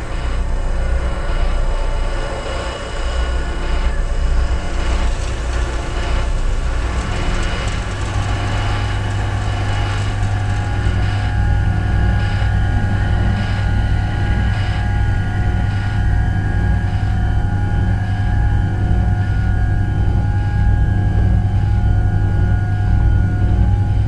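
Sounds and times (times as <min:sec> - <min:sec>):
deep low hum: 0:00.0 - 0:24.0
drone of sustained tones: 0:00.0 - 0:24.0.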